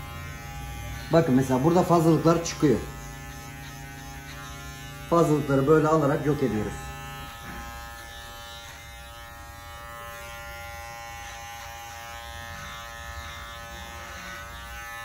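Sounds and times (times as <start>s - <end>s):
electric hair clippers humming: 0.0s - 15.0s.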